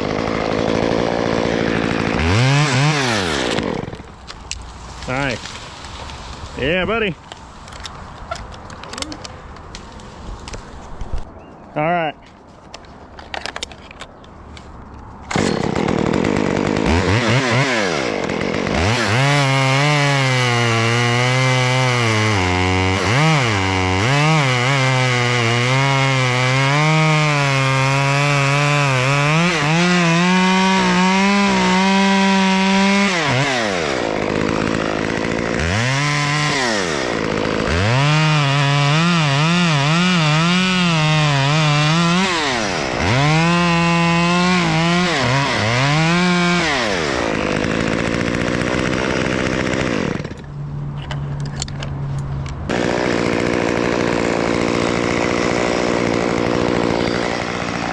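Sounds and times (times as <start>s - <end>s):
chainsaw cutting branches: 0.0s - 7.1s, 15.3s - 50.5s, 52.7s - 57.9s.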